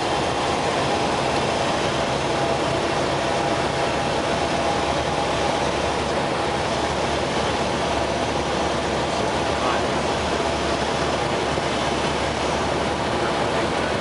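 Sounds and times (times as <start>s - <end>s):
aircraft engine and propeller drone: 0.0s - 14.0s
rushing airflow: 0.0s - 14.0s.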